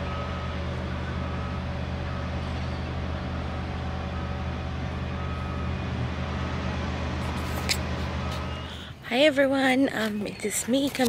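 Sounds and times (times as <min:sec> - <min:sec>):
vehicle hum: 0:00.0 - 0:11.0.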